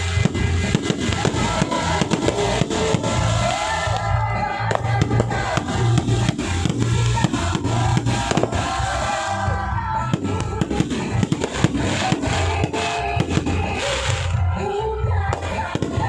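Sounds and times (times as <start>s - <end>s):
fireworks banging and crackling: 0.0s - 14.6s, 15.2s - 16.0s
loud music with pulsing bass: 0.0s - 16.0s.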